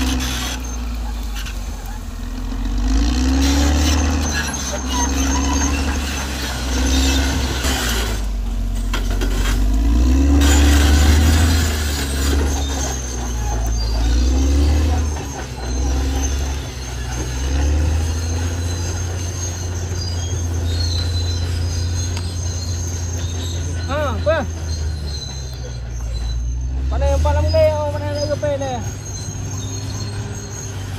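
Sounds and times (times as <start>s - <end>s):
bulldozer diesel engine: 0.0s - 30.9s
steel tracks clattering and squealing: 0.0s - 30.9s.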